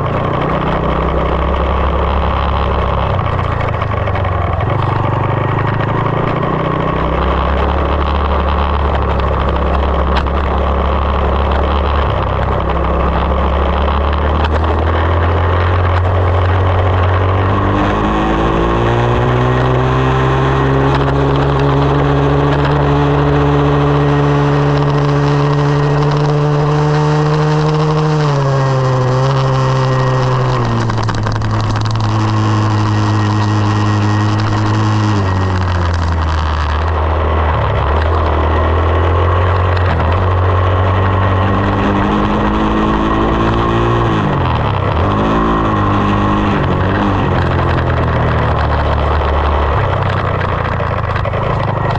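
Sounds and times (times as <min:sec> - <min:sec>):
dirt bike engine running: 0:00.0 - 0:51.9
wind noise: 0:00.0 - 0:51.9.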